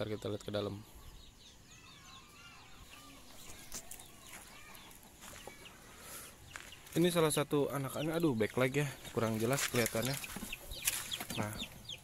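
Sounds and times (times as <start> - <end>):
chickens clucking: 2.2 - 12.0.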